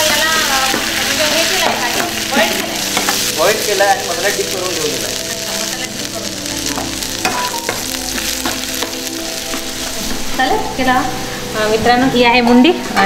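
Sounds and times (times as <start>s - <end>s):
meat sizzling in oil: 0.0s - 11.5s.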